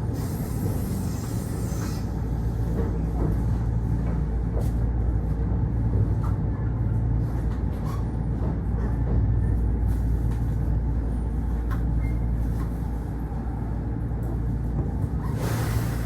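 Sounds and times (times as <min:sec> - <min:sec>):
train car hum and rumble: 0:00.0 - 0:16.0.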